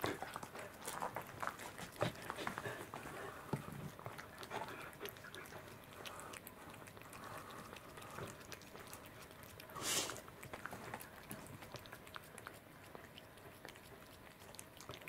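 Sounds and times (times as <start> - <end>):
cat licking and chewing: 0.0 - 15.0.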